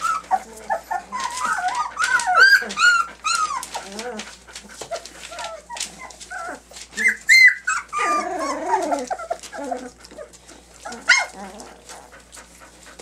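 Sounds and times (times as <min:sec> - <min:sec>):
puppies whimpering and yelping: 0:00.0 - 0:13.0.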